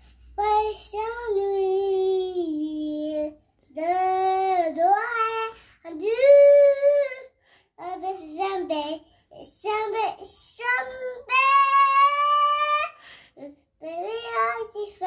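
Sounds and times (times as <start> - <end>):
child singing: 0.4 - 15.0.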